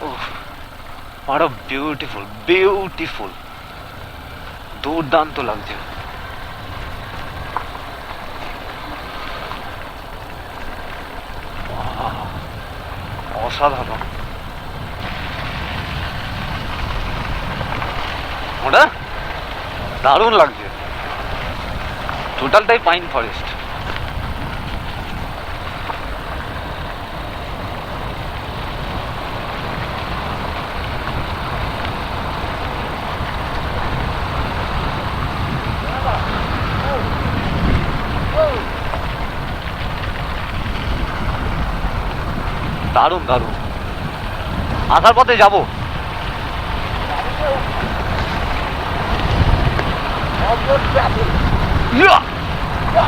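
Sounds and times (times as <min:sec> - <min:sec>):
motorcycle engine rumbling: 0:00.0 - 0:53.0
road and rushing air noise: 0:00.0 - 0:53.0.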